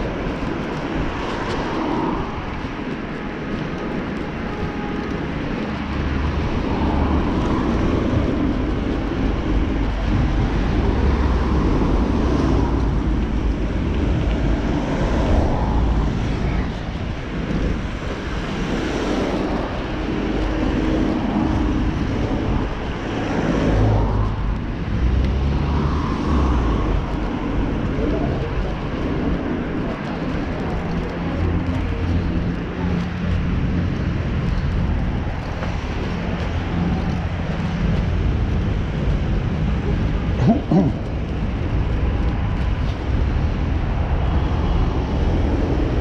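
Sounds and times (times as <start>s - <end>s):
road and traffic noise: 0.0s - 46.0s
wind on microphone: 0.0s - 46.0s.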